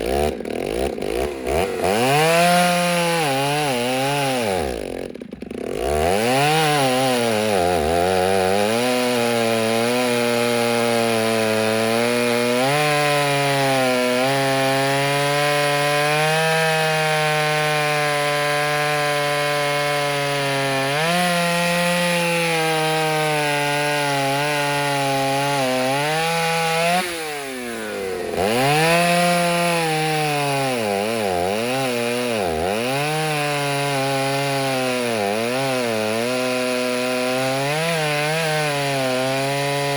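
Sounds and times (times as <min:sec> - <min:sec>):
chainsaw cutting under load: 0:00.0 - 0:39.9.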